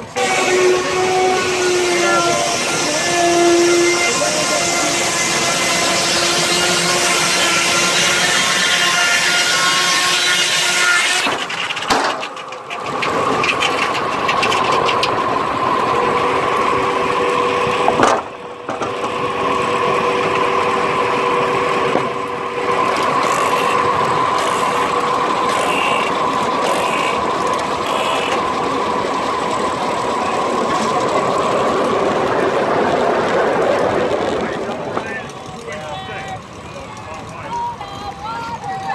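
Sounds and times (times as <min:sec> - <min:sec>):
sawmill blade whining: 0:00.0 - 0:38.9
steam traction engine running: 0:00.0 - 0:38.9.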